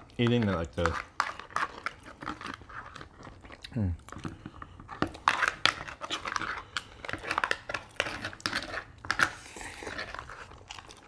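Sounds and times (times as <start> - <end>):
spoons scraping crab shells: 0.0 - 11.0
wet chewing and lip smacks: 1.0 - 11.0.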